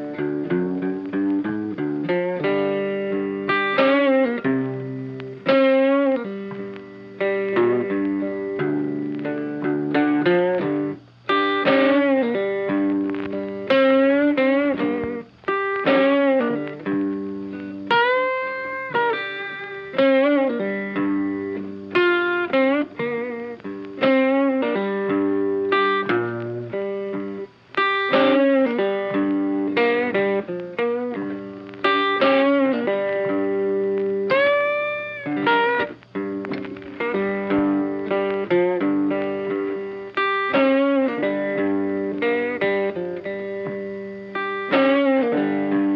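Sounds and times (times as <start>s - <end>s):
plucked guitar music: 0.0s - 45.9s.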